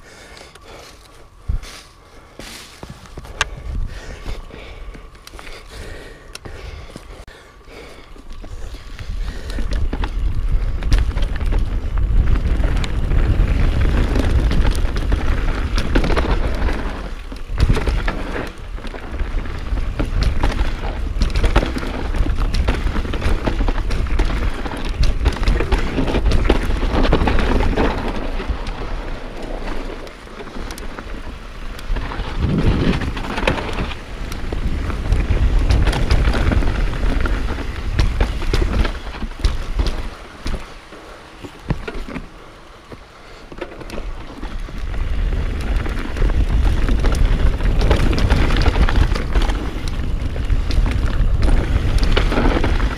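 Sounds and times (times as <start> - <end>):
tyre and trail rumble: 0.0 - 52.9
bike clicks and knocks: 0.1 - 52.9
wind buffeting microphone: 0.6 - 42.0, 44.0 - 52.9.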